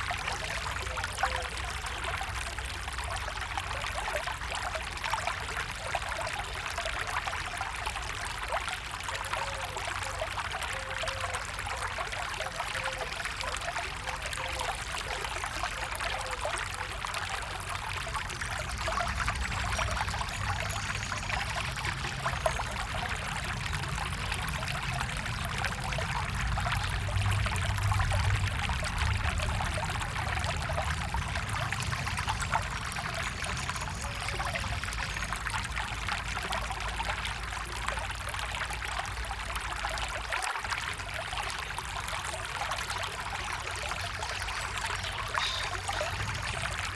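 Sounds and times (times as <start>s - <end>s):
stream flowing over stones: 0.0s - 46.9s.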